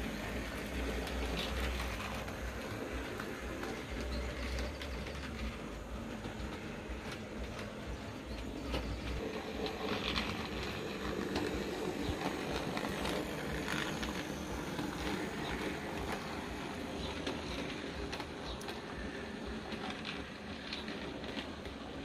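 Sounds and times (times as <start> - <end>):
model train rattling rumble: 0.0 - 22.0
wheels clicking on rails: 0.0 - 22.0.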